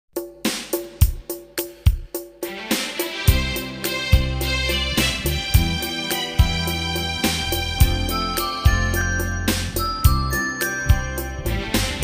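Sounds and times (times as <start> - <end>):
instrumental pop music: 0.2 - 12.0.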